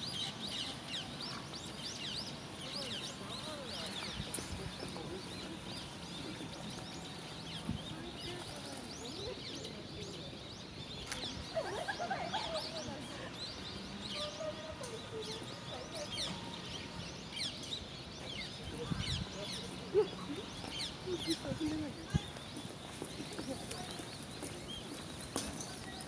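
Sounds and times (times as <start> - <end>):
small birds chirping and twittering: 0.0 - 26.0.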